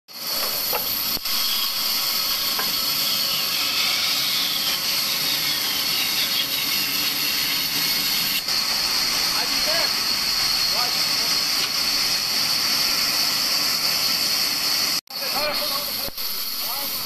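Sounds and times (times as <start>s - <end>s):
band saw cutting wood: 0.1s - 17.0s.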